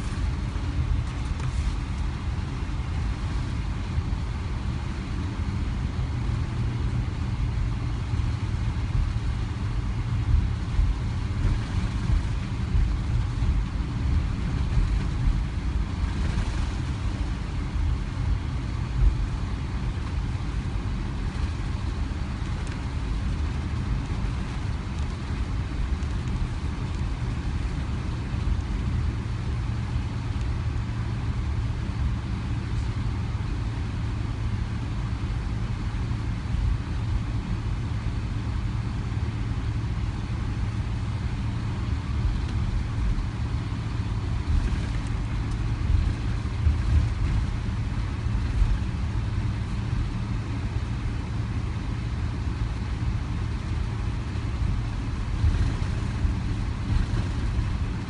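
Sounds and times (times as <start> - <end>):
low rumble of aircraft cabin: 0.0 - 58.0.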